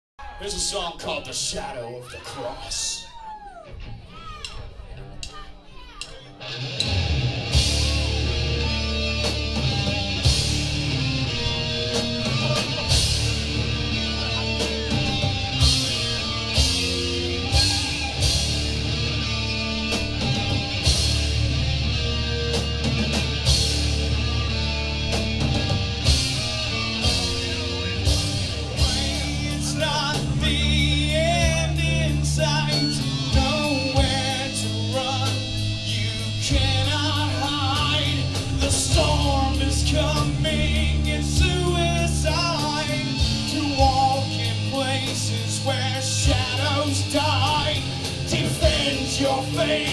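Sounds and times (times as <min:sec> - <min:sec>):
live rock band playing: 0:06.0 - 0:49.9
lead guitar melody: 0:06.3 - 0:49.9.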